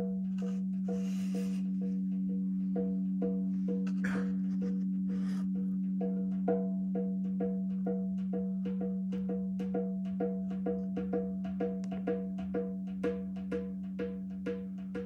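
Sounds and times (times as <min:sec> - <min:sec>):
djembe played with hands: 0:00.0 - 0:15.0.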